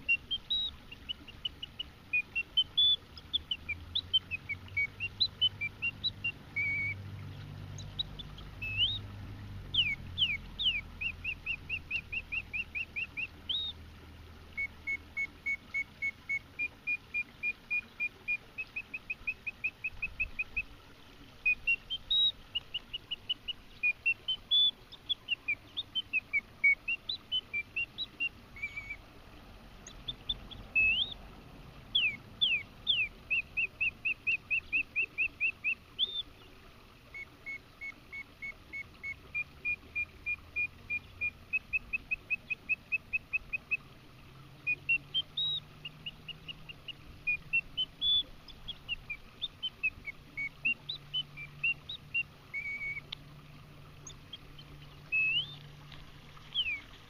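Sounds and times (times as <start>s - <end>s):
mechanical birdsong whistle: 0.0s - 7.0s, 7.8s - 9.1s, 9.7s - 13.8s, 14.5s - 20.7s, 21.4s - 29.0s, 29.8s - 31.2s, 31.9s - 36.4s, 37.1s - 43.8s, 44.6s - 53.2s, 54.0s - 55.6s, 56.5s - 56.9s.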